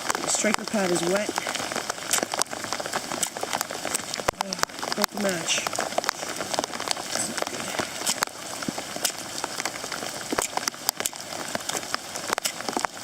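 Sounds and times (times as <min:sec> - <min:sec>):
heavy rain pouring: 0:00.0 - 0:13.0
raindrops tapping nearby: 0:00.0 - 0:13.0.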